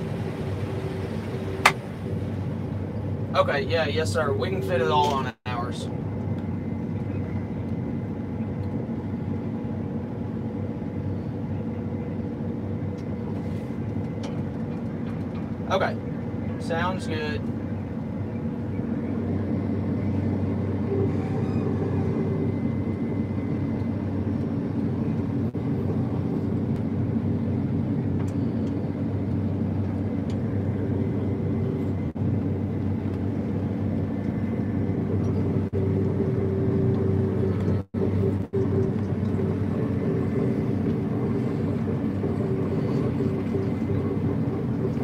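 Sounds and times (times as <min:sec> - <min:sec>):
combine harvester droning: 0:00.0 - 0:45.0.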